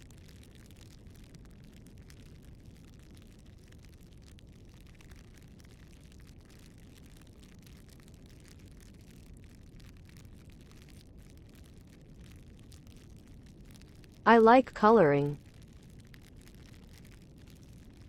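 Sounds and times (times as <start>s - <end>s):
campfire crackles: 0.0s - 14.2s, 15.4s - 18.0s
rustle of flames: 0.0s - 14.2s, 15.4s - 18.0s.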